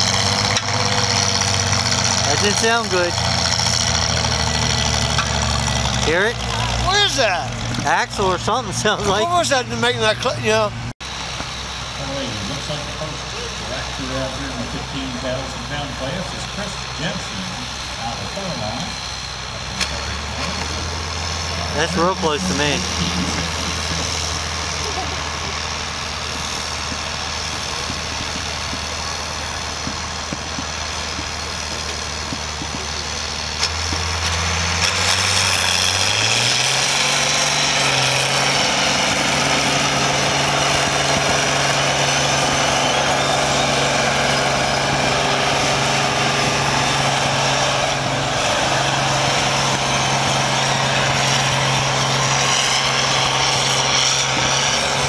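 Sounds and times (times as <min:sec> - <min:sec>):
tractor engine idling and revving: 0:00.0 - 0:55.0.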